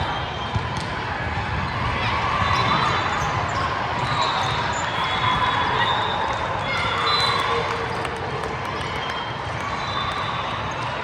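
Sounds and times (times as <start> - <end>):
din of players and spectators: 0.0 - 11.0.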